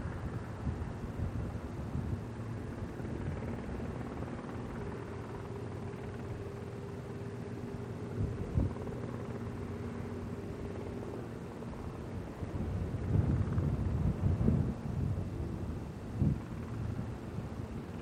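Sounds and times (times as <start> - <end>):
faint steady hum: 0.0 - 18.0
piston aircraft engines droning: 0.0 - 18.0.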